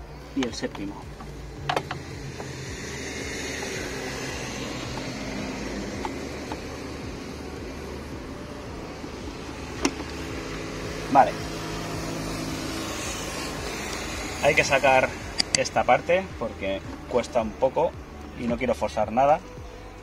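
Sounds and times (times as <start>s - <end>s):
engine parts clicking: 0.3s - 17.4s.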